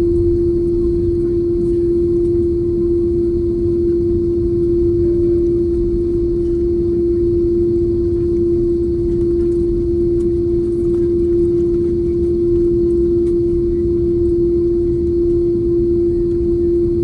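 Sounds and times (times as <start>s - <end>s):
constant cabin hum: 0.0s - 17.0s
jet engine rumble: 0.0s - 17.0s.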